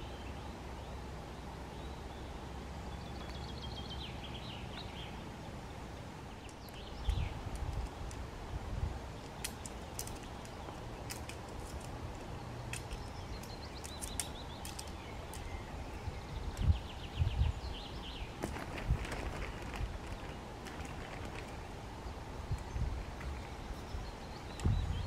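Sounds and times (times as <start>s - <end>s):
outdoor hiss: 0.0s - 25.0s
small birds chirping: 1.7s - 8.3s, 9.1s - 25.0s.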